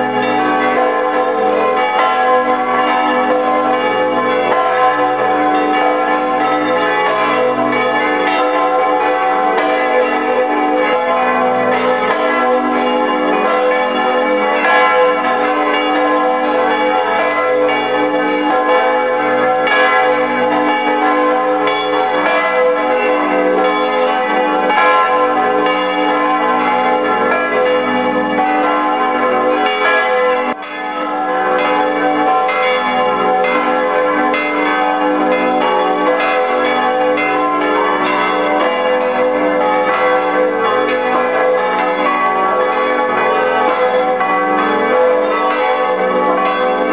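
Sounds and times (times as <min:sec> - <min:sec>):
church bells ringing: 0:00.0 - 0:46.9.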